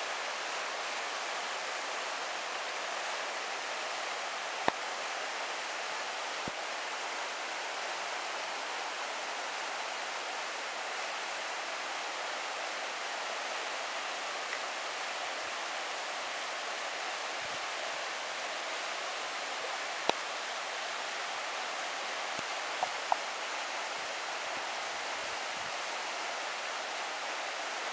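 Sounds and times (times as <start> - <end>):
river rushing over pebbles: 0.0 - 27.9.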